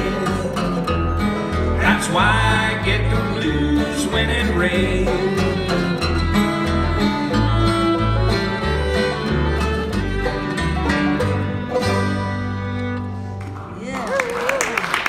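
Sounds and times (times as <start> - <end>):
old-time string band playing: 0.0 - 13.8.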